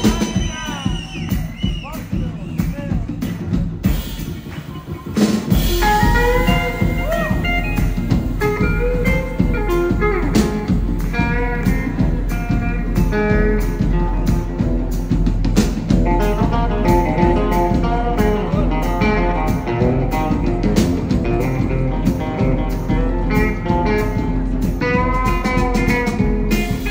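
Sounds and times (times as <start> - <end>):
drum kit steady beat: 0.0 - 26.9
electric guitar with bent notes: 0.0 - 26.9.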